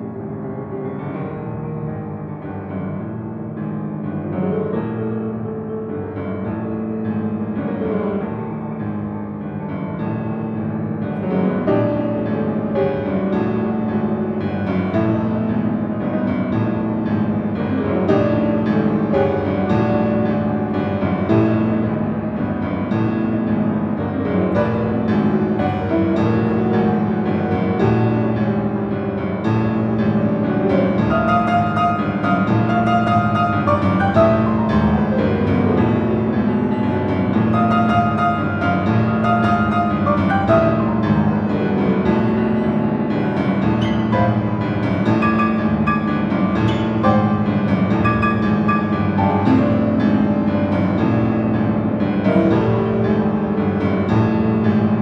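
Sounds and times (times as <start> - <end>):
grand piano playing: 0.0 - 55.0.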